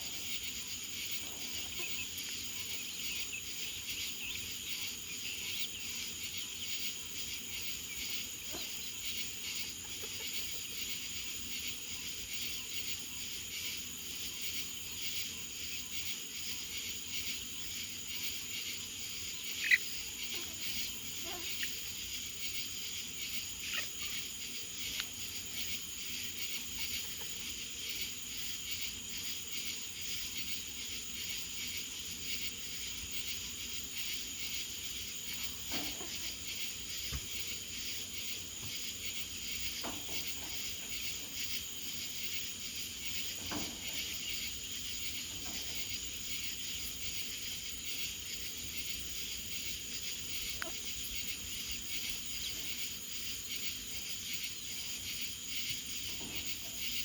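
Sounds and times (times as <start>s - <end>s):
crickets and insects trilling: 0.0s - 57.0s.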